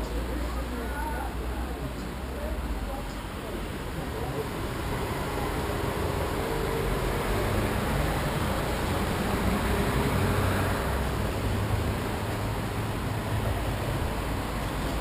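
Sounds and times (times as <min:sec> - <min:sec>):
city background rumble: 0:00.0 - 0:15.0
traffic: 0:00.0 - 0:15.0.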